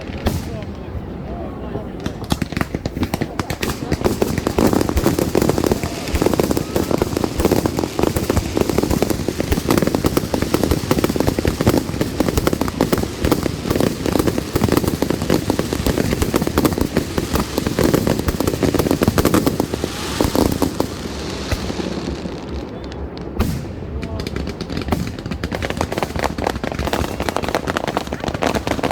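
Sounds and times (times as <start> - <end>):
fireworks rapid bangs and crackling: 0.0 - 0.8, 2.0 - 28.9.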